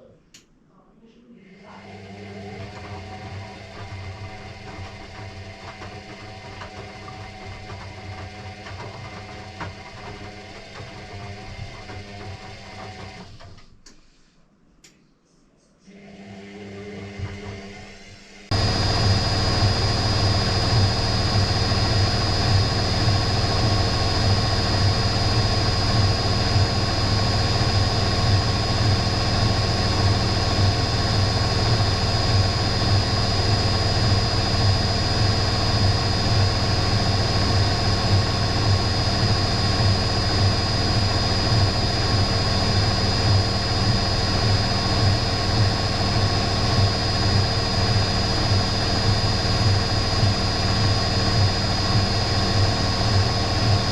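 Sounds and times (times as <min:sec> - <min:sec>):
washing machine spinning: 0:01.5 - 0:13.8, 0:15.9 - 0:53.9.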